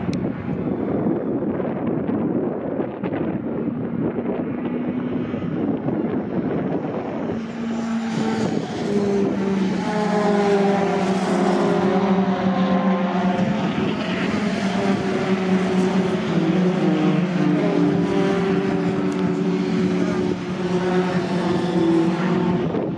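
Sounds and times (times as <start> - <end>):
racing trucks engines passing: 0.0 - 22.9.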